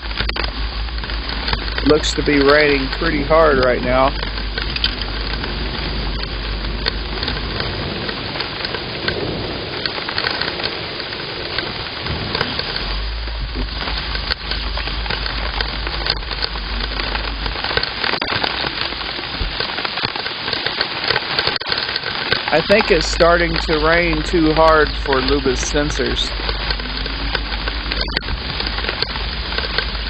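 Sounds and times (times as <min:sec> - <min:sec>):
low rumble: 0:00.0 - 0:19.8, 0:22.5 - 0:30.0
heavy rain pouring: 0:00.0 - 0:30.0.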